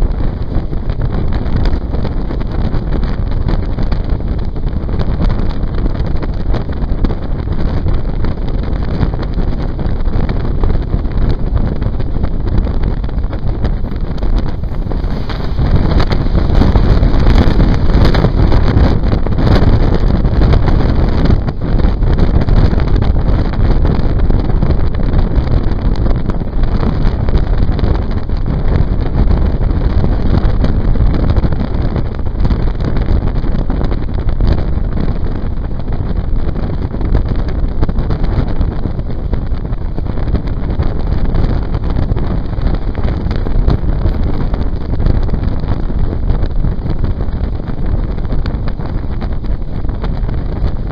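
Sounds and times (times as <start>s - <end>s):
train running rumble: 0.0s - 45.0s
wind buffeting microphone: 0.0s - 50.9s.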